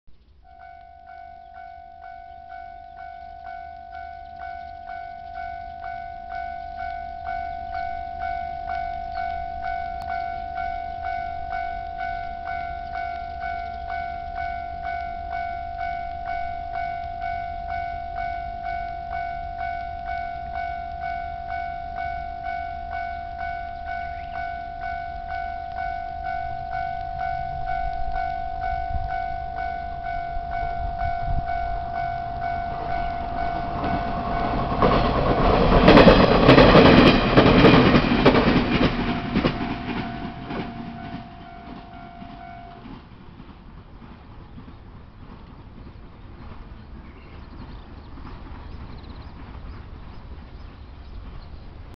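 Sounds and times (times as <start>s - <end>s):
train passing: 0.4s - 51.9s
level crossing alarm ringing: 0.5s - 42.9s.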